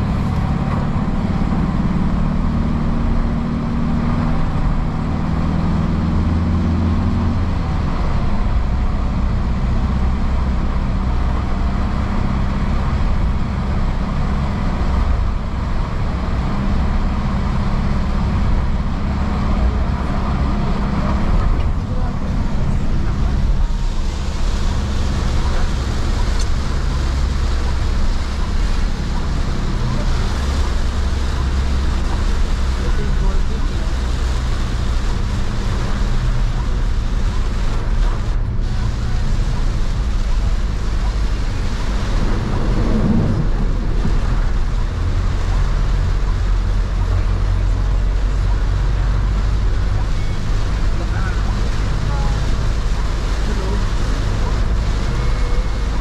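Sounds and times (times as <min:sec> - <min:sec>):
engine and road rumble: 0:00.0 - 0:56.0
rain and tyres hissing on wet road: 0:00.0 - 0:56.0.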